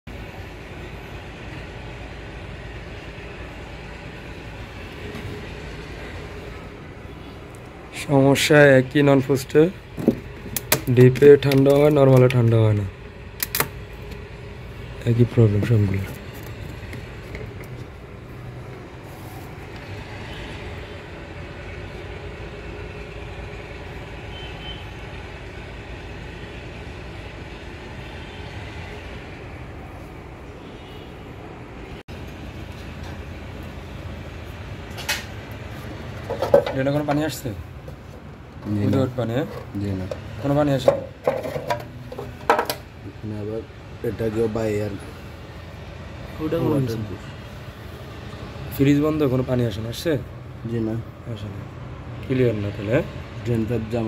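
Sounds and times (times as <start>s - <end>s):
low rumbling background noise: 0.1s - 54.0s.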